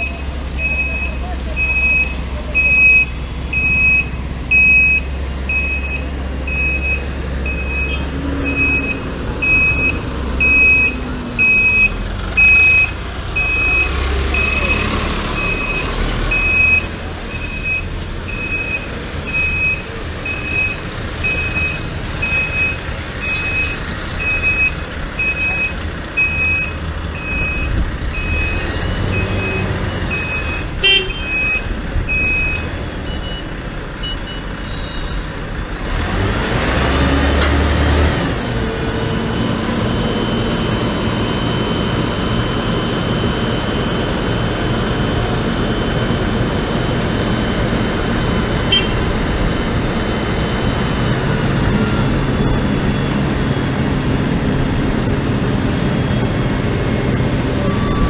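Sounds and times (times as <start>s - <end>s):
truck reversing alarm beeping: 0.0s - 36.3s, 36.9s - 49.6s, 50.2s - 58.0s
low rumble of engines: 0.0s - 58.0s.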